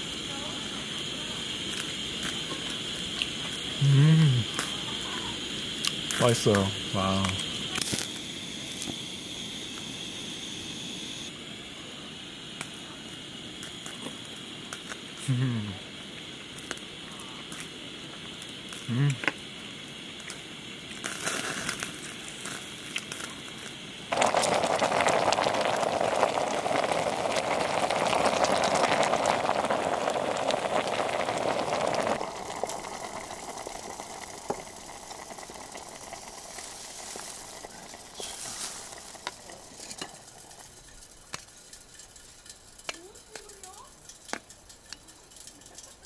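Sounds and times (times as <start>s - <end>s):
beef sizzling: 0.0s - 46.0s.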